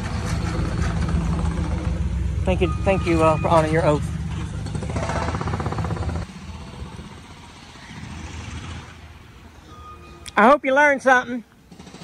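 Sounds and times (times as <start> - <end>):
car engine rumbling: 0.0 - 9.8
road noise: 0.0 - 12.0.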